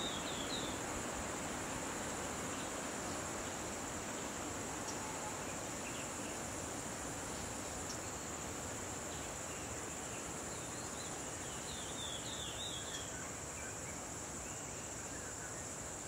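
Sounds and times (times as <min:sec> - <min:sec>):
background hiss: 0:00.0 - 0:16.0
insects chorus: 0:00.0 - 0:16.0.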